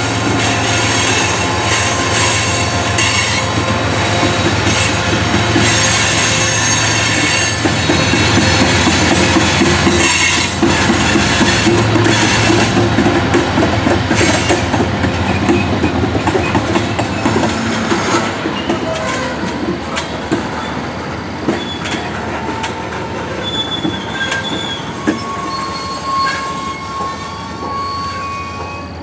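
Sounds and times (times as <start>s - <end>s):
high wheel squeals: 0.0s - 19.4s, 21.5s - 29.0s
steel wheels rumbling on rails: 0.0s - 29.0s.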